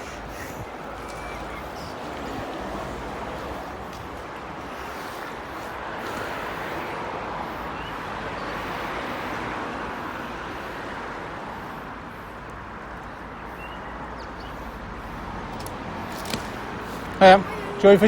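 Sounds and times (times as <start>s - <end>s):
vehicle road and wind noise: 0.0s - 18.0s.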